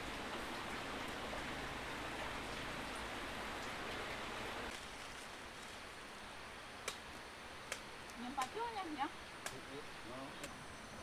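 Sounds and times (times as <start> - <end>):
rain falling: 0.0 - 10.5.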